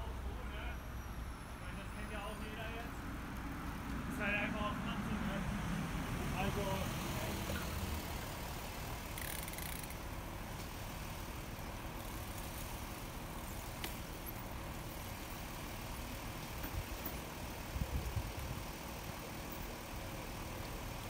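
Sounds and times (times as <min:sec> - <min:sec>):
cars idling: 0:00.0 - 0:21.0.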